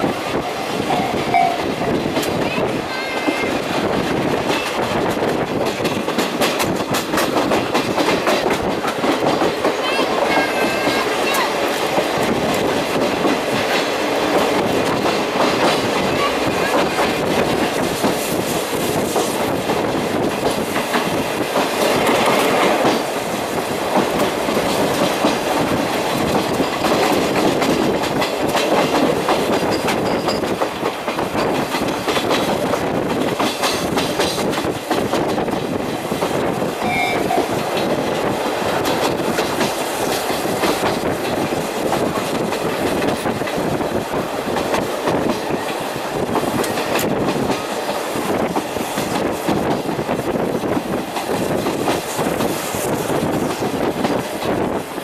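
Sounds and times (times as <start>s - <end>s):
train running rumble: 0.0s - 55.0s
wheels clickety-clack over rail joints: 0.0s - 55.0s.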